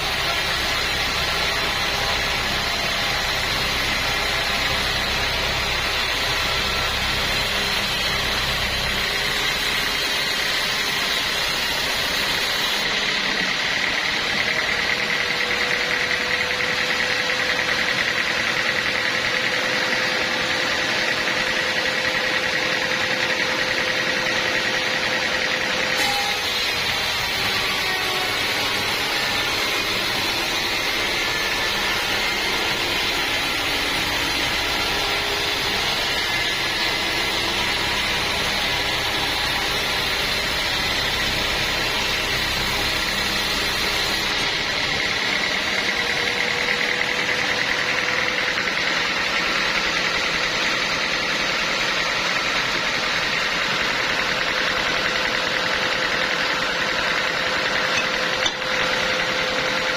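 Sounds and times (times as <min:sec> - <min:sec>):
sawmill engine and saw drone: 0:00.0 - 0:59.9.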